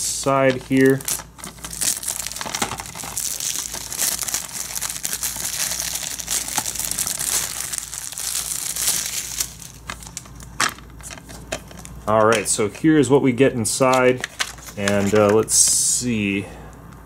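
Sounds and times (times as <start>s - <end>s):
plastic shrink-wrap crinkling: 0.0s - 12.6s, 14.0s - 15.4s.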